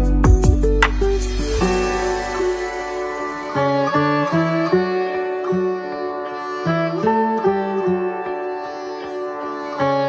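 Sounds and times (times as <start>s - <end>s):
plucked-string instrumental music: 0.0s - 10.0s.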